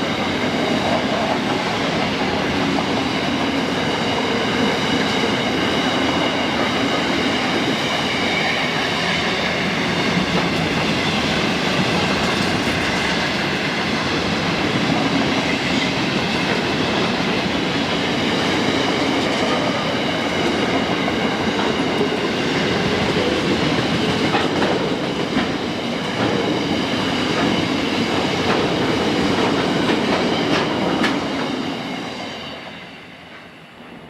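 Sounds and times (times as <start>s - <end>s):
train wagons rolling past: 0.1s - 34.0s.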